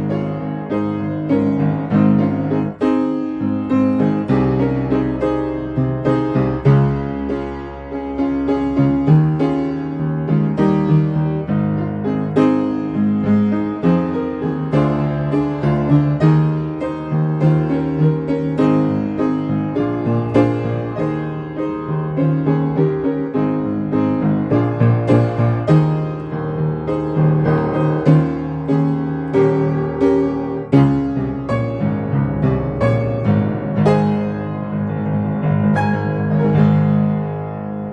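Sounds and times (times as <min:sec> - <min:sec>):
piano playing hymn tune: 0:00.0 - 0:37.9.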